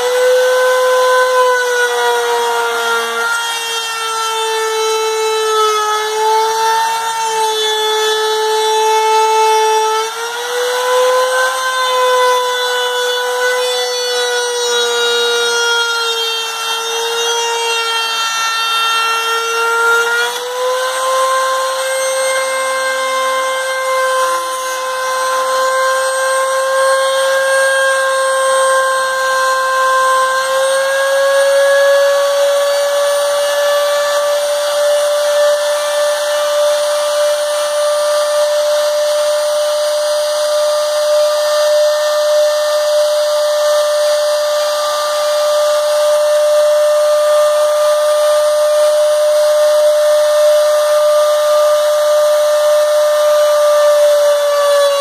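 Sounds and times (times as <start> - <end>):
router high whine: 0.0 - 55.0.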